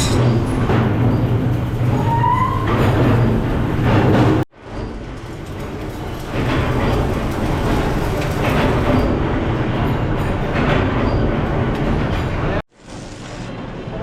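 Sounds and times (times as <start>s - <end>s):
machinery rumble: 0.0s - 14.0s.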